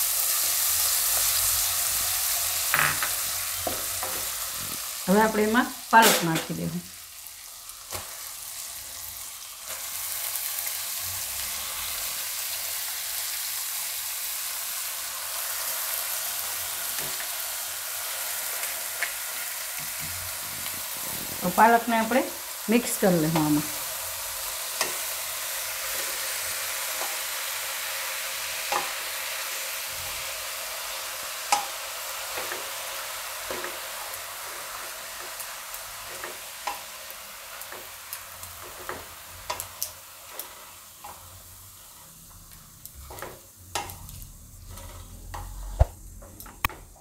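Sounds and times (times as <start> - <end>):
spinach sizzling in oil: 0.0 - 47.0.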